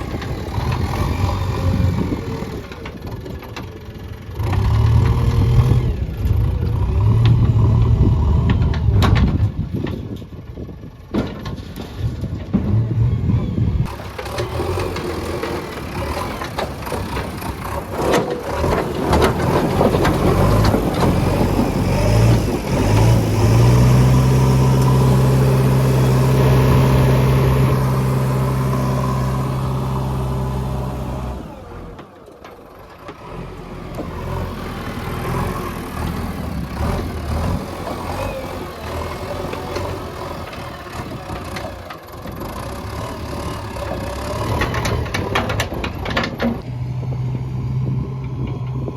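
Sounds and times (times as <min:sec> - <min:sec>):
diesel engine revving: 0:00.0 - 0:09.8, 0:12.7 - 0:48.9.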